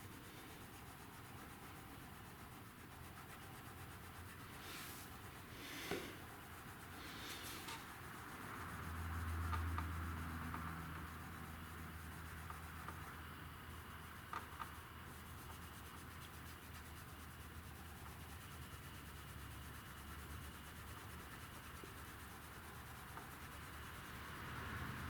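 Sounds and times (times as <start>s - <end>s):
cloth rubbing car paint: 0.0s - 25.0s.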